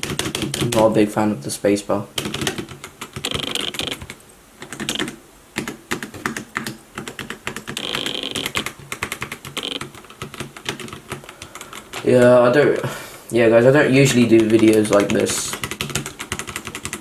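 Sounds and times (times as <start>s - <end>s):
mechanical keyboard typing: 0.0s - 1.0s, 2.2s - 12.8s, 14.0s - 17.0s.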